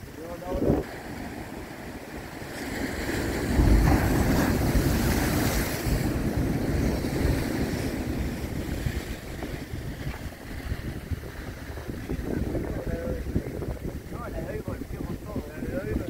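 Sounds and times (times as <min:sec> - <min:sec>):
surf breaking against rocks: 0:00.0 - 0:16.0
wind rumble on microphone: 0:00.0 - 0:16.0.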